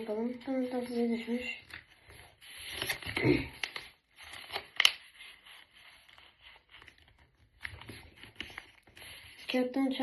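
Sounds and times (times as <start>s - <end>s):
paper rustling and crackling: 0.8s - 10.0s.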